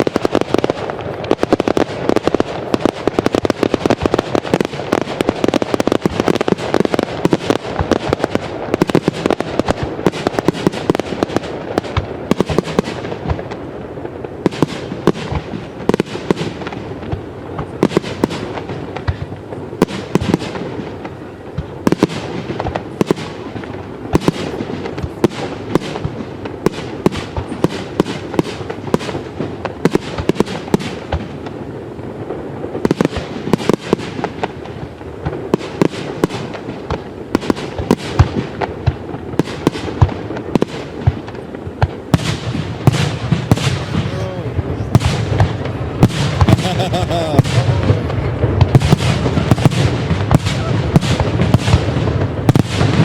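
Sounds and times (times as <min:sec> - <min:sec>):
fireworks bursting with crackle: 0:00.0 - 0:53.0.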